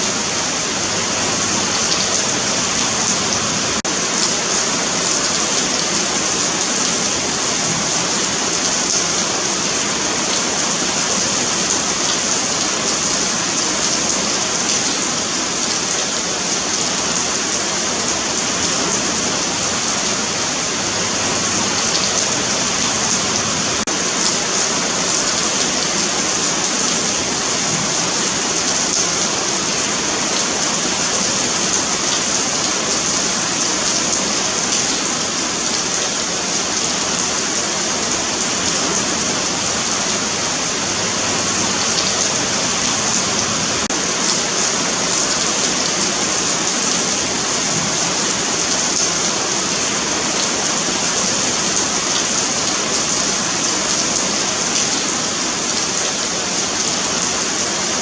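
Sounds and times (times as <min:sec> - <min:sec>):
rain on pavement: 0:00.0 - 0:58.0.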